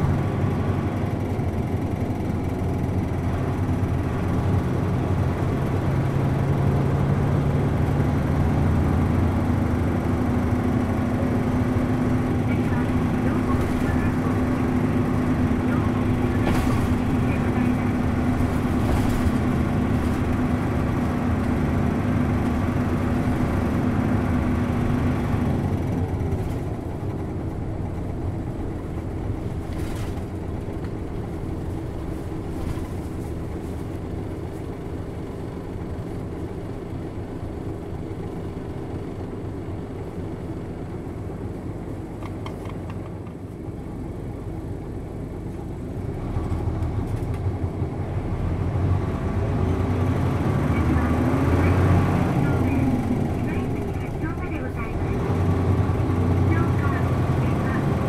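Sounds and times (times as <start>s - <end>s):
bus diesel engine howling: 0.0s - 58.0s.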